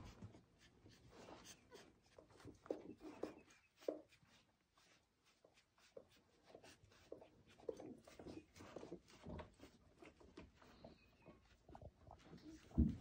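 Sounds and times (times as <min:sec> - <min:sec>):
puppies rustling: 0:00.0 - 0:13.0.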